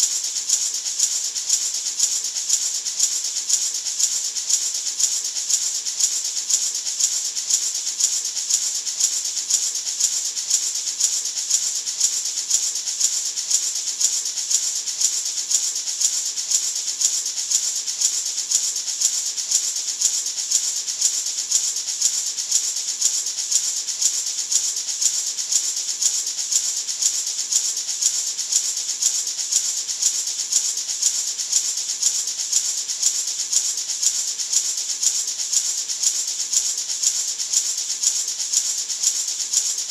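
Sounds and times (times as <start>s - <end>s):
maraca shaken: 0.0s - 39.9s.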